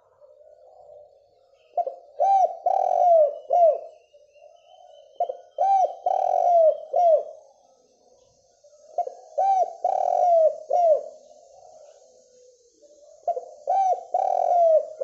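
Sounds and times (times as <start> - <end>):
dove cooing: 0.0 - 4.0, 4.9 - 7.5, 8.9 - 15.0.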